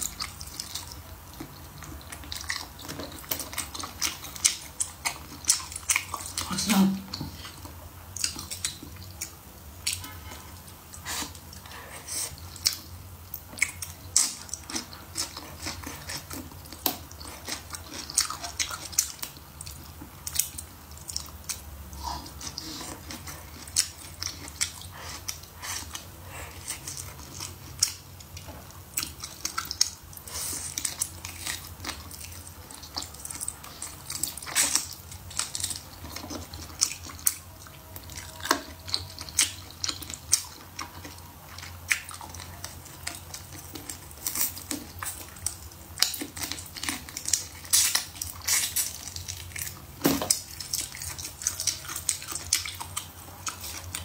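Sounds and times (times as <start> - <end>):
close chewing and biting: 0.0 - 54.0.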